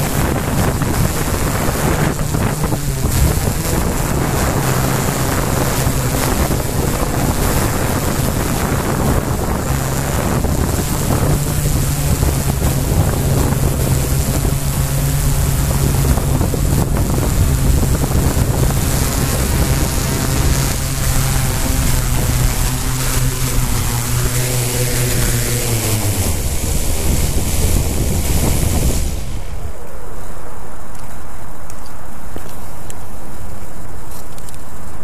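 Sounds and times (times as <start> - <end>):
drone motors humming: 0.0 - 35.0
wind noise: 0.0 - 35.0.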